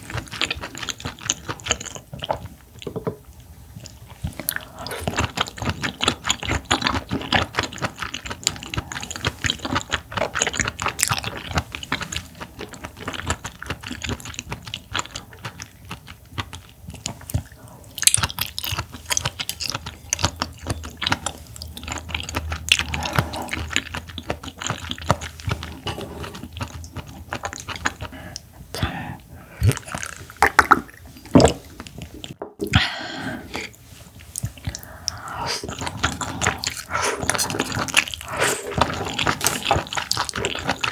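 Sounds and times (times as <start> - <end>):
wet chewing: 0.0 - 2.9, 3.7 - 32.8, 33.5 - 40.9.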